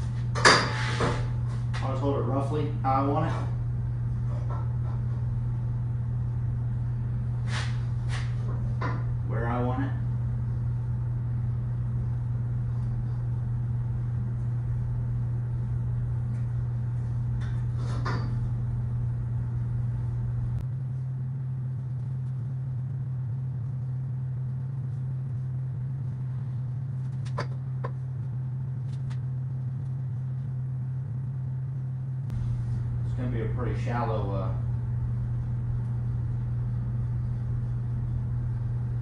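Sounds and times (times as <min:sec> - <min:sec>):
deep rumble: 0:00.0 - 0:39.0
steady low hum: 0:00.0 - 0:39.0.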